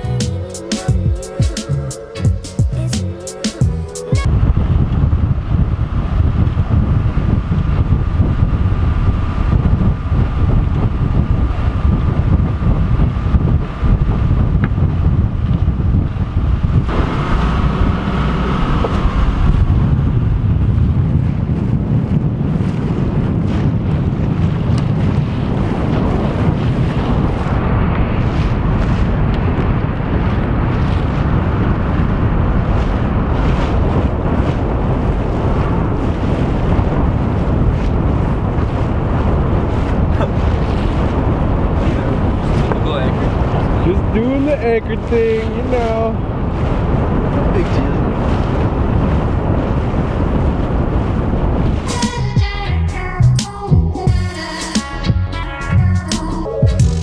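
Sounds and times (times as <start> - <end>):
water washing past hull: 0.0 - 57.0
wind buffeting microphone: 3.7 - 54.3.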